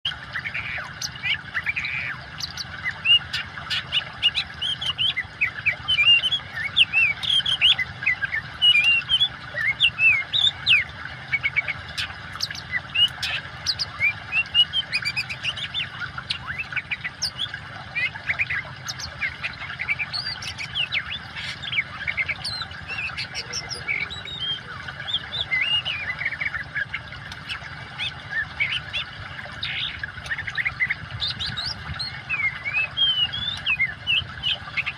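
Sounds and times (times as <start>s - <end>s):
running water: 0.0s - 34.9s
bird singing whistles and chirps: 0.5s - 10.8s, 12.4s - 26.8s, 29.6s - 34.9s.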